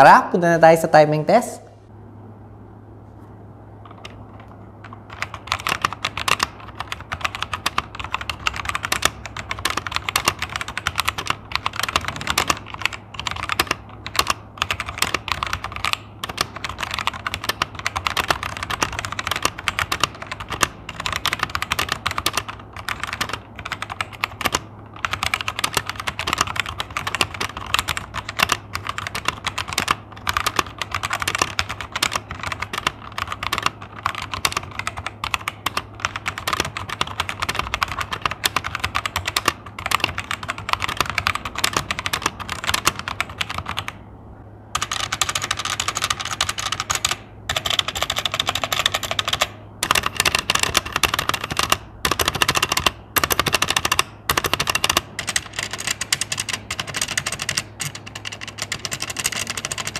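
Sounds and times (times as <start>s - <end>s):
mechanical keyboard typing: 3.8s - 44.0s, 44.7s - 59.9s.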